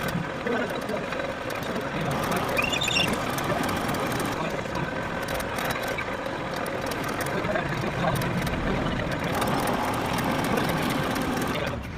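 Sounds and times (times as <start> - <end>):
metal lathe running: 0.0 - 11.8.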